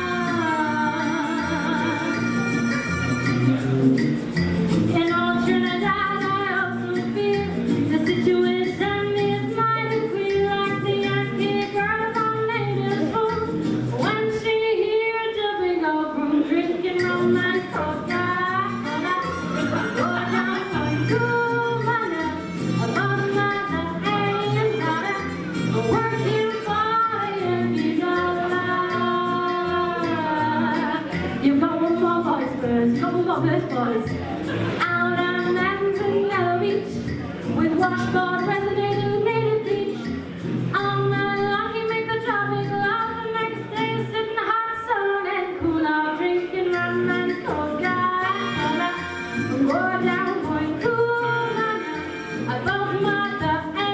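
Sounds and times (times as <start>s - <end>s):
woman singing: 0.0s - 3.0s, 4.8s - 53.9s
small band with upright bass: 0.0s - 53.9s.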